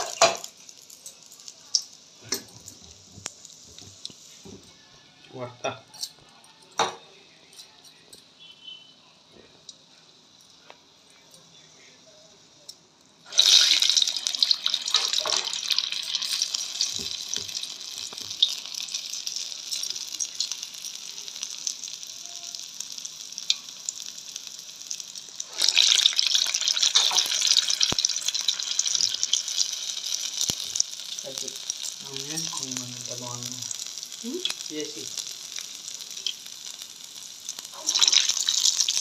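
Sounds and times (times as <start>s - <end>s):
batter sizzling in hot oil: 0.0s - 4.8s, 8.4s - 39.0s.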